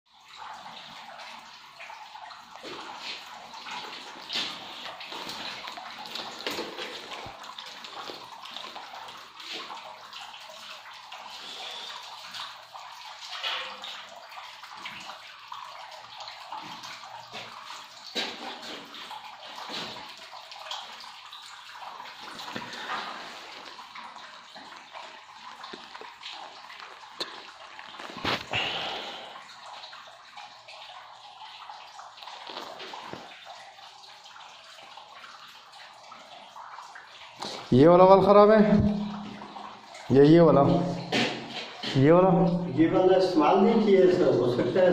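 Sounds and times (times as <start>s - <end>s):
running water rushing: 0.1s - 44.9s.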